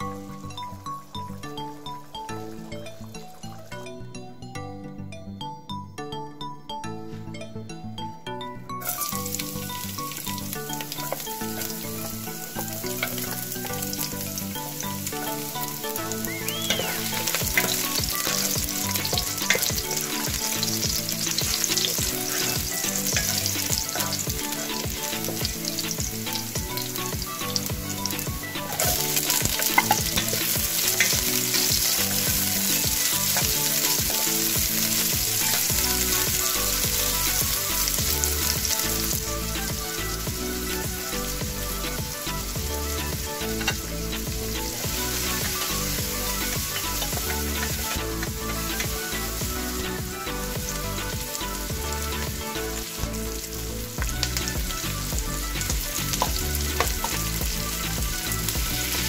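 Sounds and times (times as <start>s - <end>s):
soft background music: 0.0s - 59.0s
food sizzling in oil: 8.8s - 59.0s.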